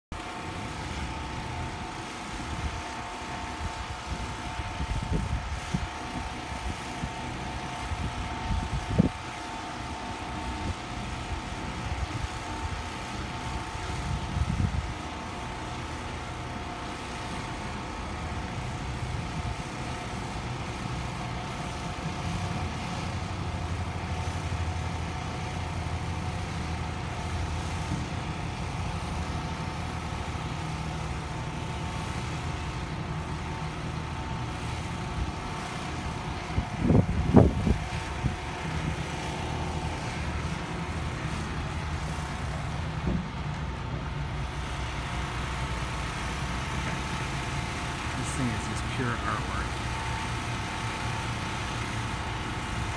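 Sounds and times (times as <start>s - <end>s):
crane engine droning: 0.1s - 52.9s.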